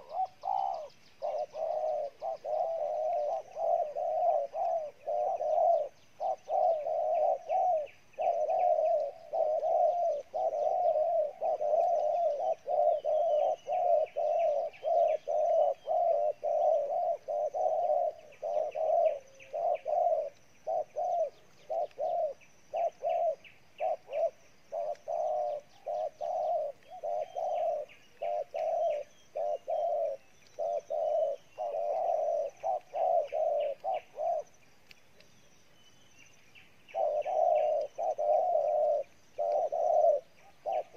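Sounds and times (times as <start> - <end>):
dove cooing: 0.0 - 35.0, 36.8 - 40.9.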